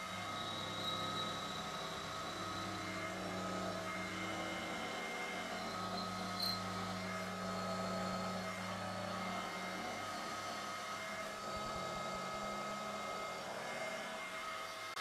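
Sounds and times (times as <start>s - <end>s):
milling machine humming and whining: 0.0s - 15.0s.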